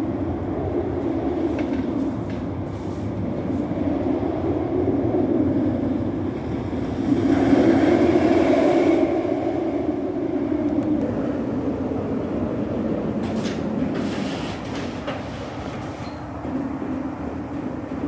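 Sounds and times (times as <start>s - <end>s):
roller coaster rumbling on track: 0.0s - 18.0s.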